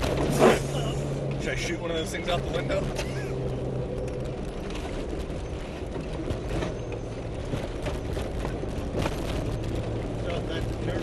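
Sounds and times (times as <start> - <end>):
vehicle body rattling and knocking: 0.0 - 0.4, 1.4 - 11.0
vehicle engine drone: 0.0 - 11.0.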